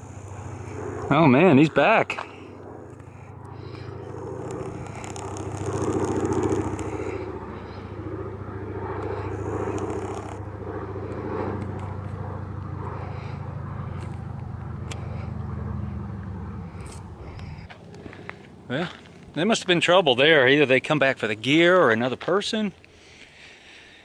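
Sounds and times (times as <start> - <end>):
propeller engine droning: 0.0 - 24.0.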